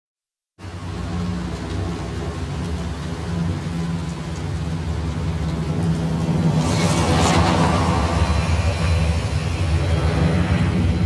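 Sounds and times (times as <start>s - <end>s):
car driving rumble: 0.6s - 11.0s
rain falling on a car: 0.6s - 11.0s.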